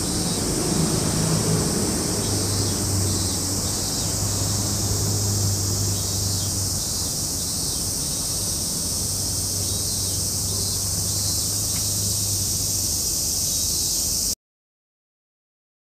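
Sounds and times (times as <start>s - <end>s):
high-pitched insect chorus: 0.0s - 14.4s.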